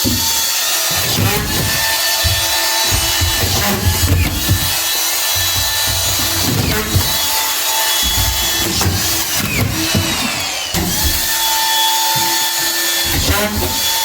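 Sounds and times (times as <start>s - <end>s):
handheld power tool running: 0.0s - 14.0s.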